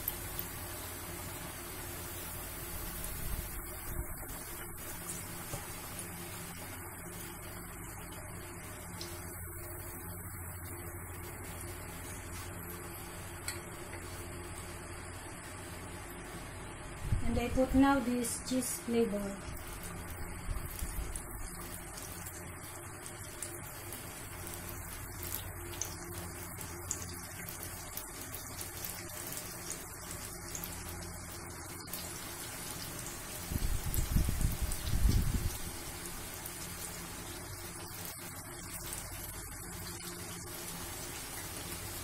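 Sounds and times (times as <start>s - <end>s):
oil sizzling and bubbling: 0.0s - 42.0s.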